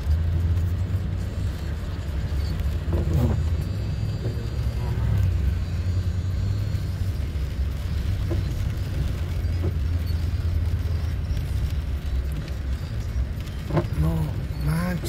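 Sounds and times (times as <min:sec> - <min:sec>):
car engine from inside cabin: 0:00.0 - 0:15.0
tyres on wet road: 0:00.0 - 0:15.0.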